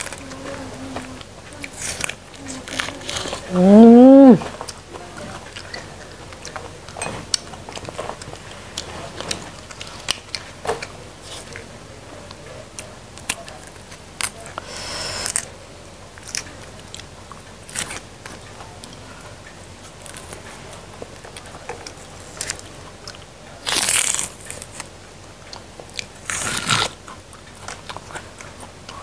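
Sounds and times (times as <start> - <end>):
crisp chewing crunches: 1.1 - 11.7, 12.7 - 15.5, 16.1 - 19.1, 19.8 - 29.0.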